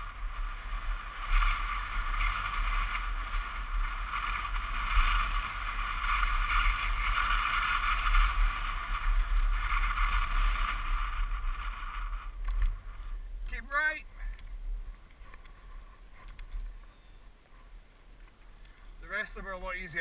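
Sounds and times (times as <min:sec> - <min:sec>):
board wheels rolling rumble: 0:00.0 - 0:20.0.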